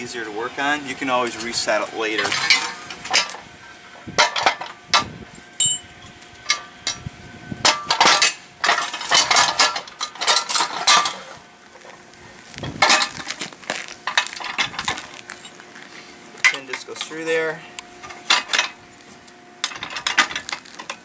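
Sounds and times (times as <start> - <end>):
metal clinking and scraping: 1.2 - 3.4, 4.2 - 7.0, 7.6 - 21.0.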